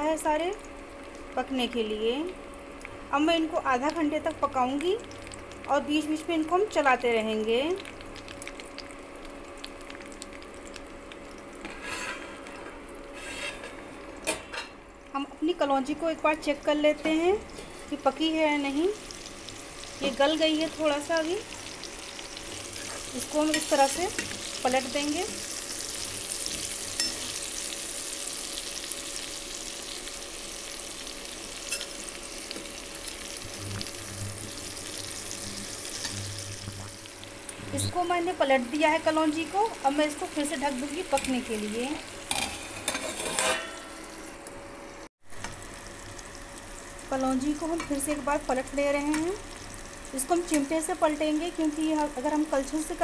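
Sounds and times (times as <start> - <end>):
oil sizzling with crackles: 0.0 - 53.0.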